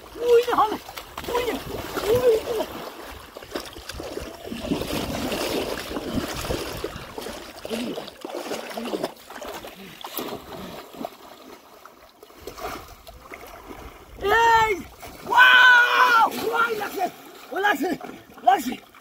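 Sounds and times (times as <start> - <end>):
river water sloshing and splashing: 0.0 - 19.0.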